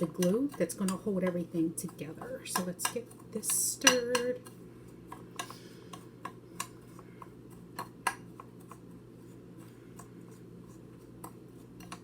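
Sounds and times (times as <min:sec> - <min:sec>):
utensil tapping a bowl: 0:00.0 - 0:08.8, 0:09.6 - 0:12.0
utensil stirring in a bowl: 0:00.0 - 0:12.0.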